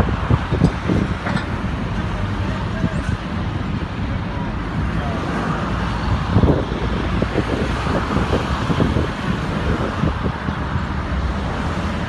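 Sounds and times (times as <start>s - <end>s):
motorway traffic noise: 0.0s - 12.0s
truck engine running: 0.0s - 12.0s
wind on microphone: 0.0s - 12.0s.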